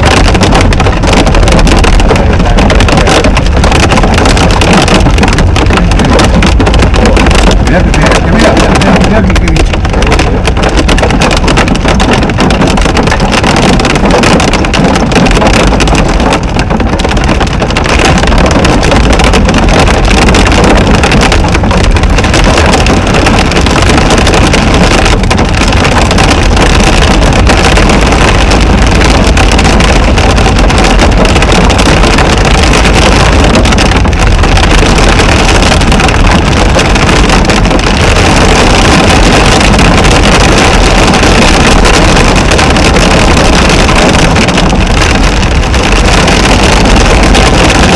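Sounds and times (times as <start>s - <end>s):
rain and hail drumming on car roof: 0.0s - 47.9s
wind and driving rumble: 0.0s - 47.9s.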